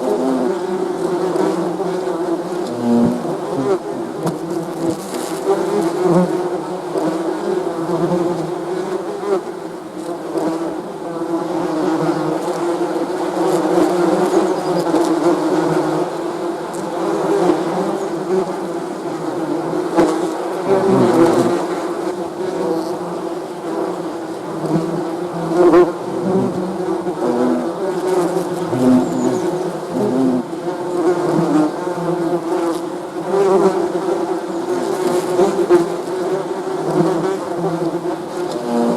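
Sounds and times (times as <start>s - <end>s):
bees buzzing: 0.0s - 9.5s, 11.2s - 38.9s.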